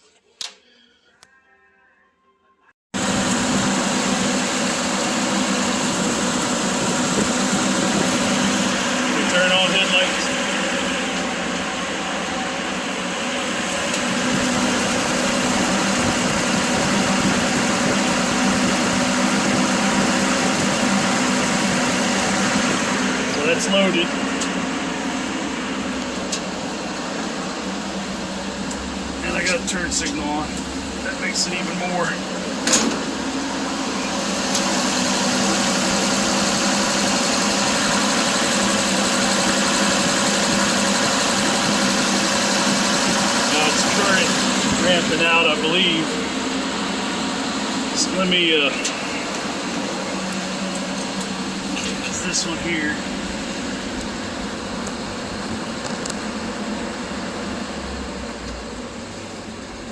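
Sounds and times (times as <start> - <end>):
vehicle engine idling: 3.3 - 59.9.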